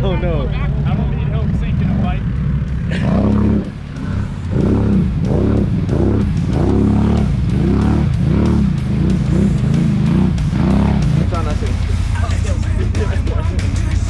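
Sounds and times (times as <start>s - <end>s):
vehicle churning through muddy water: 0.0s - 12.0s
atv engine revving: 0.0s - 14.0s.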